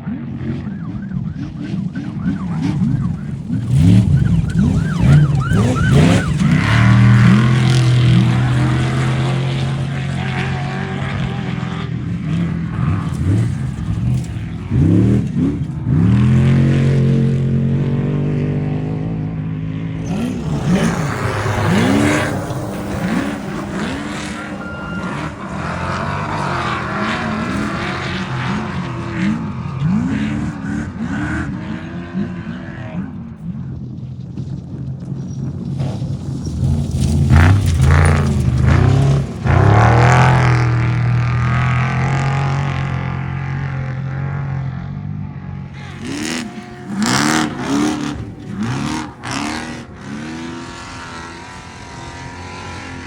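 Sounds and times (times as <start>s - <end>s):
engines revving hard: 0.0s - 53.0s.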